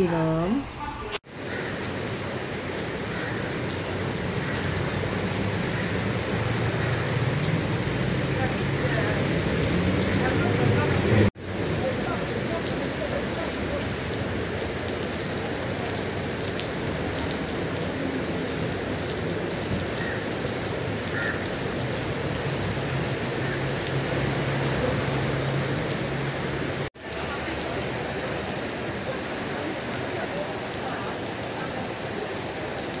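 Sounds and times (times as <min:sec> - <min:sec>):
heavy rain on stone paving: 0:00.5 - 0:33.0.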